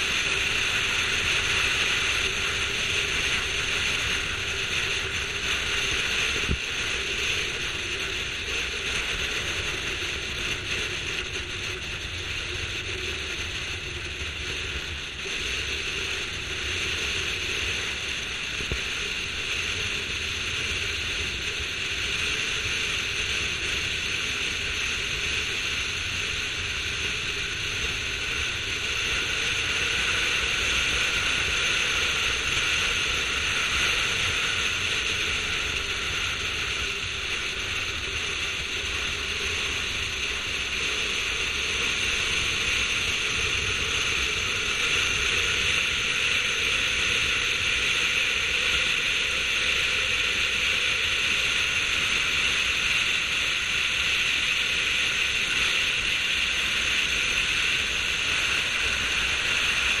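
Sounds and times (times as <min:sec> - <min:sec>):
car and tyres rumbling: 0:00.0 - 1:00.0
wind rushing on microphone: 0:00.0 - 1:00.0.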